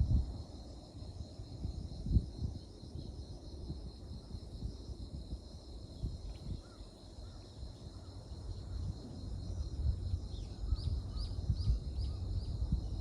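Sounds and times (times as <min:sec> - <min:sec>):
high insect trill: 0:00.0 - 0:13.0
low uneven rumble: 0:00.0 - 0:13.0.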